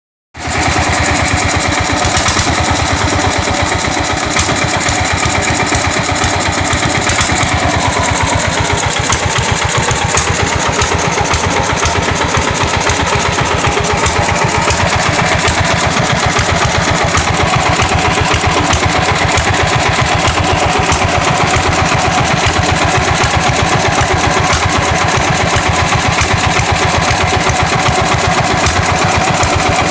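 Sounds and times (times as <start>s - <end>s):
diesel engine running: 0.4s - 29.9s.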